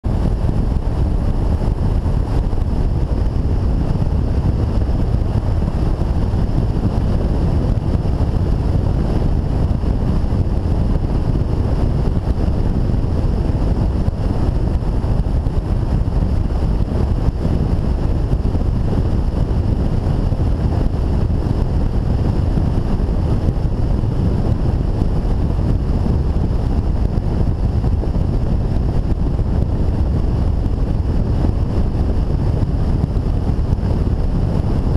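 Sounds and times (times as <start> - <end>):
motorcycle engine and tyre drone: 0.0 - 34.9
wind rushing over microphone: 0.0 - 34.9.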